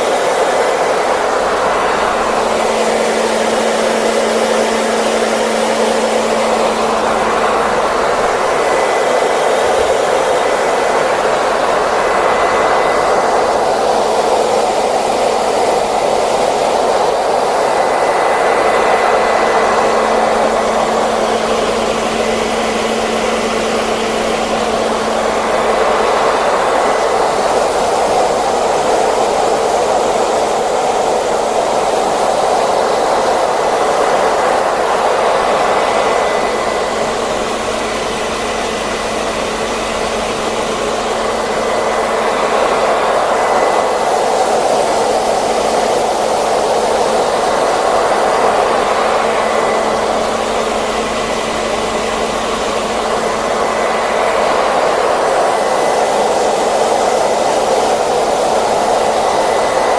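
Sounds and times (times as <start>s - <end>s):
hair dryer blowing: 0.0s - 59.9s
high motor whine: 0.0s - 59.9s.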